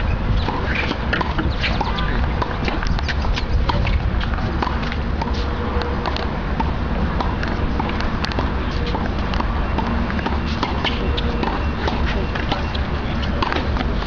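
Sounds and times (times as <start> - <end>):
outdoor background noise: 0.0 - 14.0
tennis balls bouncing on court: 0.0 - 14.0
tennis balls struck by racquets: 0.4 - 14.0.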